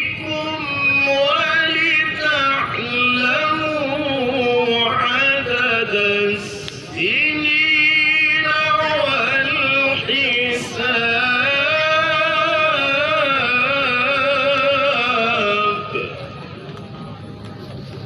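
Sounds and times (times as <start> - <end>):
man reciting melodically: 0.0 - 16.4.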